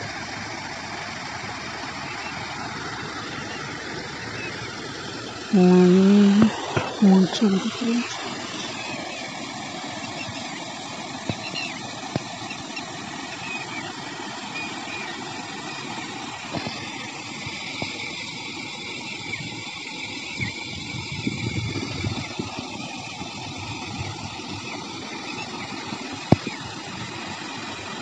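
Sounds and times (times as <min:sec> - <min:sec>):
water spilling over weir: 0:00.0 - 0:28.0.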